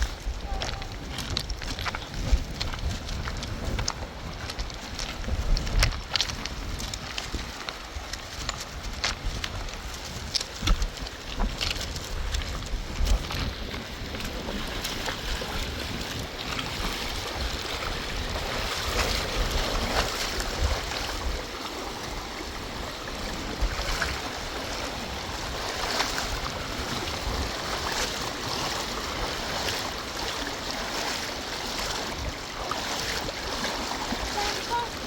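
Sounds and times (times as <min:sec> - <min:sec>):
fast-flowing river rushing: 0:00.0 - 0:35.0
wind rumbling on microphone: 0:00.0 - 0:35.0.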